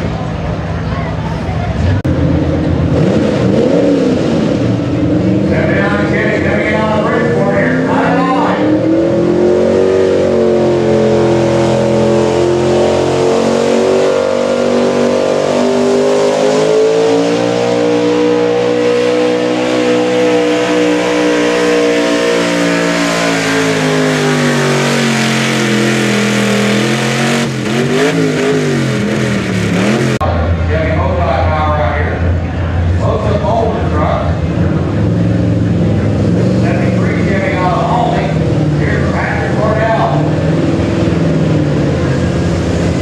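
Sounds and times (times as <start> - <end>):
truck engine at full throttle: 0.0 - 43.0.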